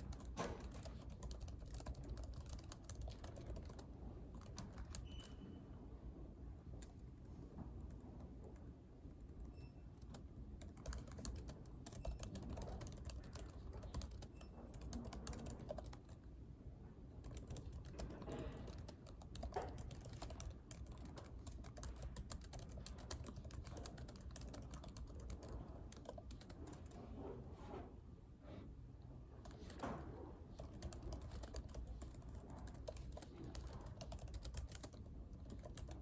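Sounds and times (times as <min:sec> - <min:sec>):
typing on laptop keyboard: 0:00.0 - 0:05.5, 0:06.7 - 0:07.0, 0:07.8 - 0:16.3, 0:17.2 - 0:27.0, 0:29.4 - 0:36.0
low room hum: 0:00.0 - 0:36.0.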